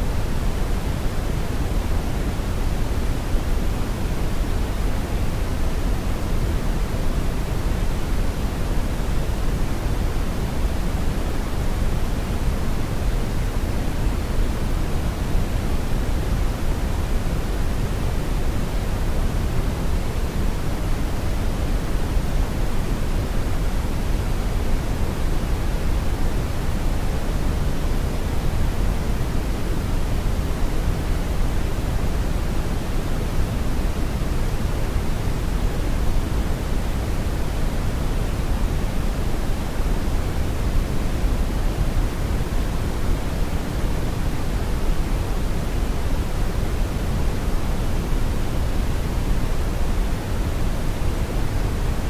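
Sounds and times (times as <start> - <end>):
brown noise rumble: 0.0 - 52.0.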